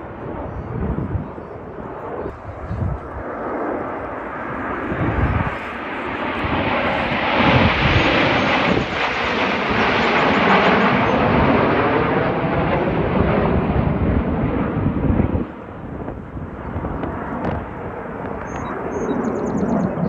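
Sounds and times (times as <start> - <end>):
jet engines passing: 0.0 - 20.0.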